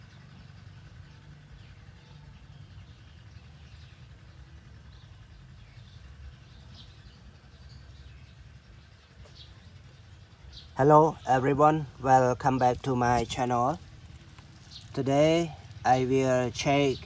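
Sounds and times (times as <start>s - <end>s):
faint bird chirps: 0.0s - 17.0s
low outdoor rumble: 0.0s - 17.0s.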